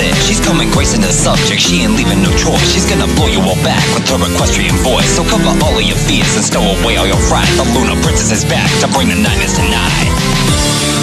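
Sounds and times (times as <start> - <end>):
loud music with sliding notes: 0.0 - 11.0.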